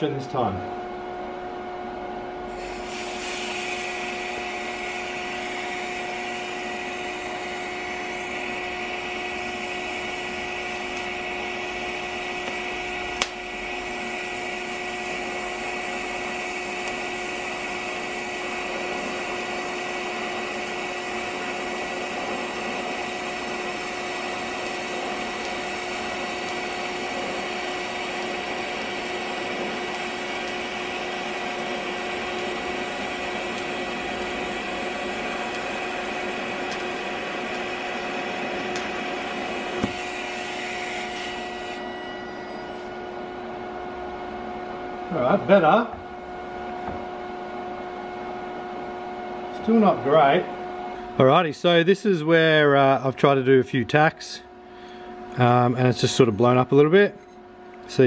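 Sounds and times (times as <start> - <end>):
welding arc hissing buzz: 1.9 - 53.4.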